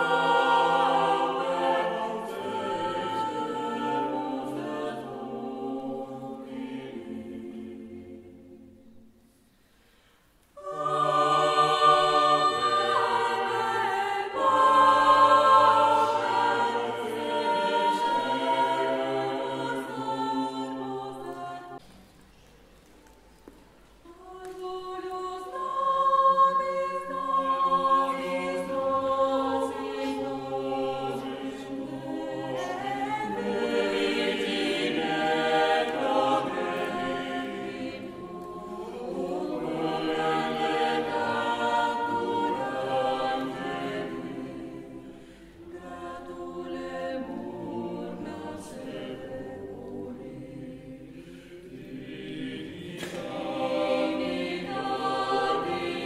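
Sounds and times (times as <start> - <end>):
choir singing in harmony: 0.0 - 21.8, 24.0 - 56.0.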